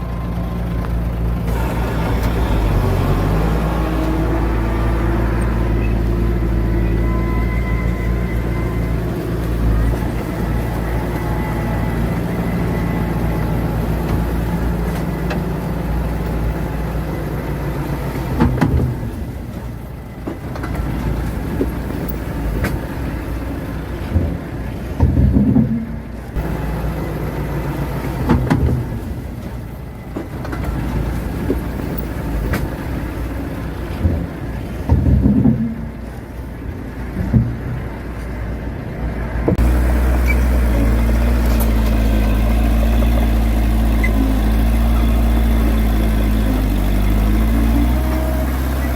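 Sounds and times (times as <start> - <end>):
bulldozer engine running: 0.0 - 48.9.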